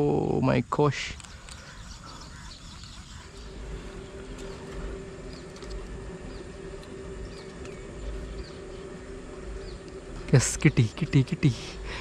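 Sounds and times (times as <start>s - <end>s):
small birds chirping: 0.0s - 12.0s
steady humming drone: 0.0s - 12.0s
low rumble: 1.8s - 12.0s.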